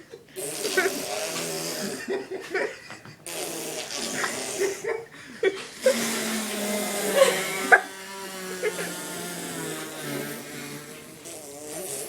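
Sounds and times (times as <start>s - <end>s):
people imitating farts: 0.4s - 12.0s.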